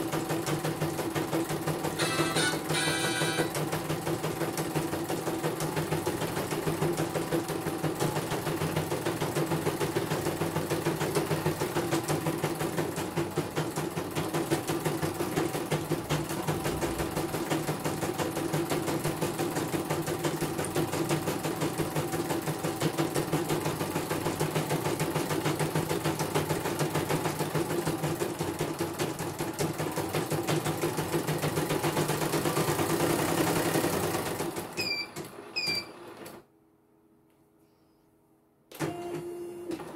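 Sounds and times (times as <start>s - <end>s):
embroidery machine stitching: 0.0s - 36.4s.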